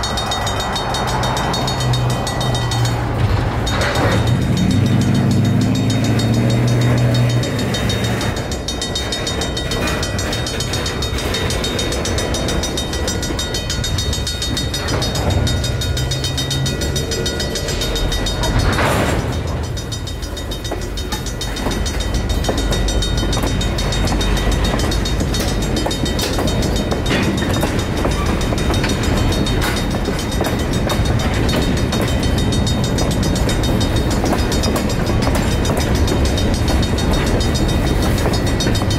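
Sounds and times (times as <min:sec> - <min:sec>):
crossing bells ringing: 0:00.0 - 0:38.9
freight cars rumbling over rails: 0:00.0 - 0:38.9
wheels knocking over rails: 0:00.0 - 0:38.9.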